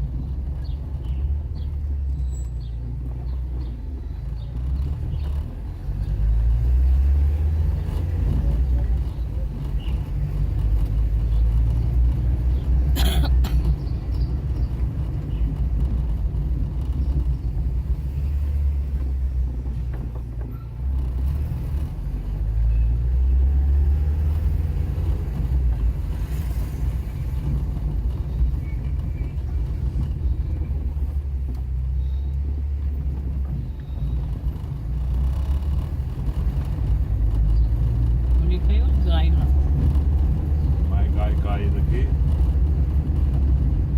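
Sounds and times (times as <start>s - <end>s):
car engine and road rumble: 0.0s - 43.9s.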